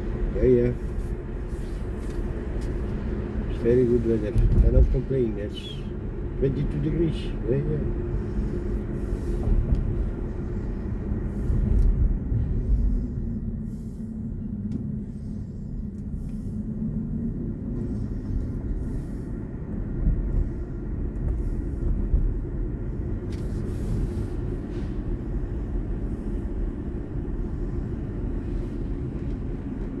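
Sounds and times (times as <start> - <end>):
electric car road and tyre rumble: 0.0 - 30.0.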